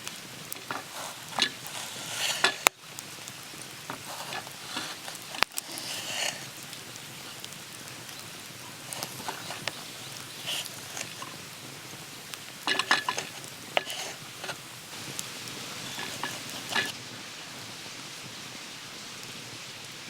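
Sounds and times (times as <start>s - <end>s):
food sizzling on griddle: 0.0s - 20.0s.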